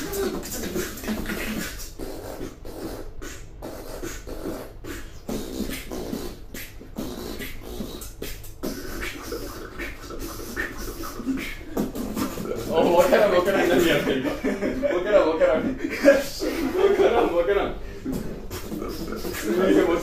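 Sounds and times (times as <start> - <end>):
person beatboxing: 0.0 - 15.0, 15.6 - 20.0.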